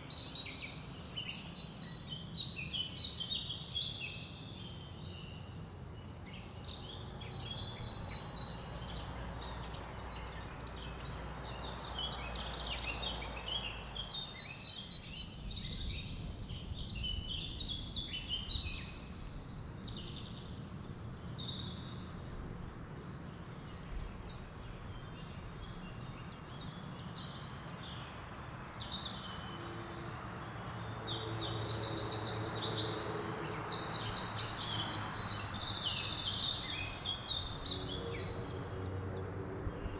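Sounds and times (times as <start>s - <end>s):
bird song of rapid repeated notes: 0.0s - 39.9s.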